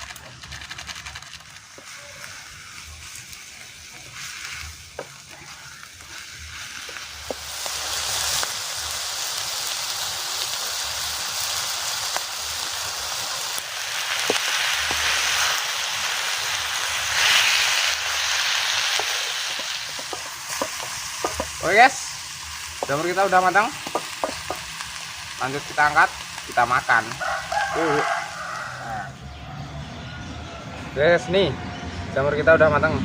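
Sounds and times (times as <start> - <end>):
mushrooms sizzling in pan: 1.4 - 29.2.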